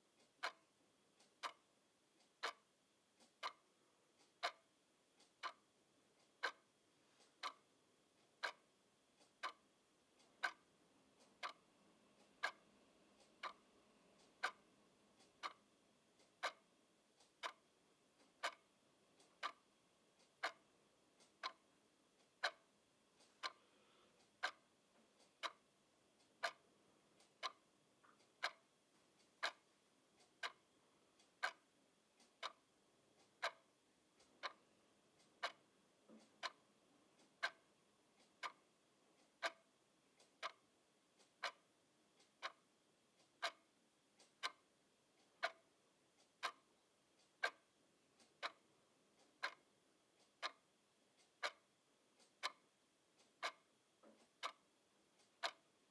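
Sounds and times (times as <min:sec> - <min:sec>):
clock ticking: 0:00.0 - 0:55.9.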